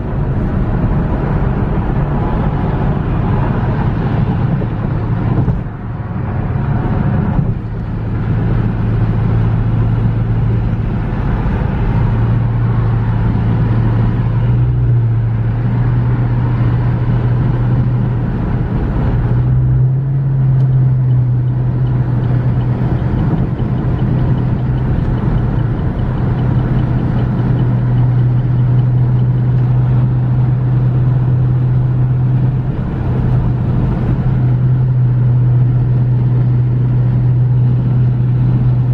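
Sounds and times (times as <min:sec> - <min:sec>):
car engine and road drone: 0:00.0 - 0:38.9.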